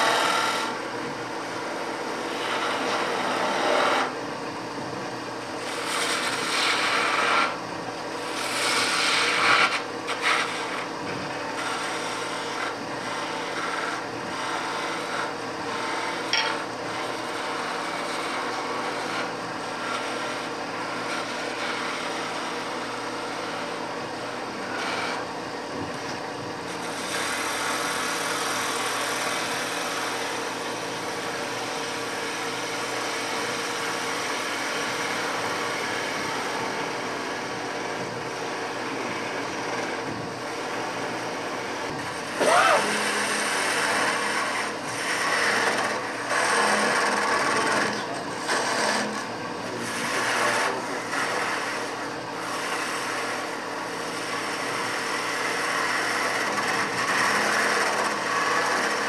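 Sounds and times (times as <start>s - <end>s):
lathe motor hum: 0.0s - 59.0s
tool cutting spinning wood: 0.0s - 59.0s.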